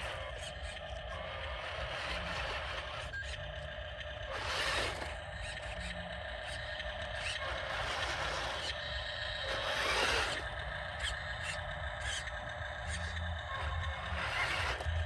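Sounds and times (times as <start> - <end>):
toy electric motors whirring: 0.0 - 15.0.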